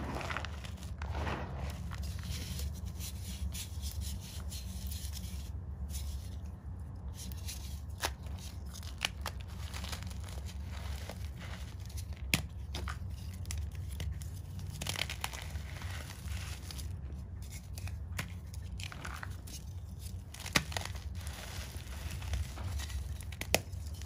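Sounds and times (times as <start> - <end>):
chalk crunching and crackling: 0.0 - 24.0.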